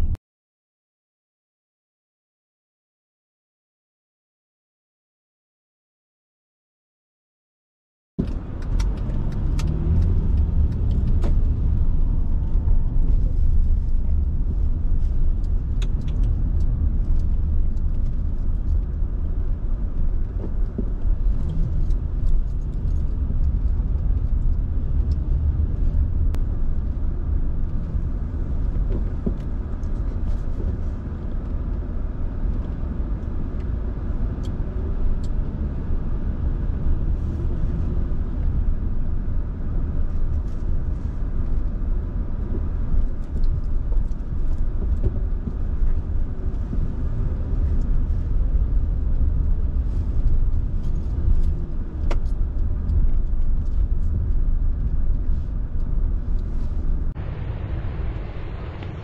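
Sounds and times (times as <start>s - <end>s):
car driving low rumble: 8.2s - 59.0s.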